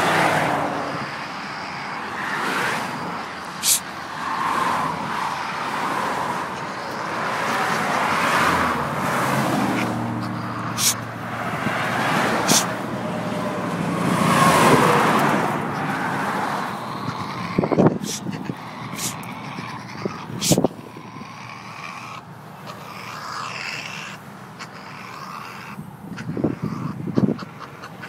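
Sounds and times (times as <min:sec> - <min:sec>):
highway traffic passing: 0:00.0 - 0:28.0.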